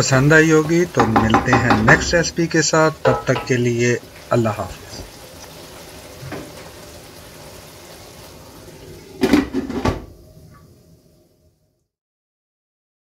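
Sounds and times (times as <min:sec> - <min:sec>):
curry simmering hiss: 0:00.0 - 0:11.9.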